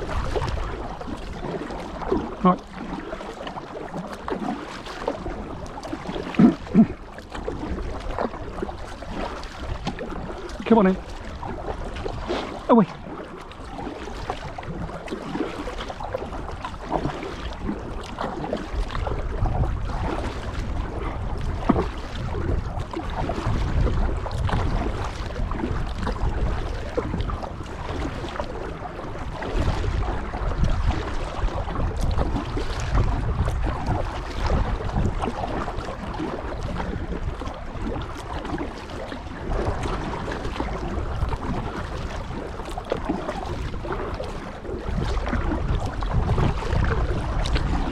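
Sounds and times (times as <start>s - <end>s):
paddle strokes splashing water: 0.0s - 47.9s
wind rumbling on microphone: 0.0s - 47.9s.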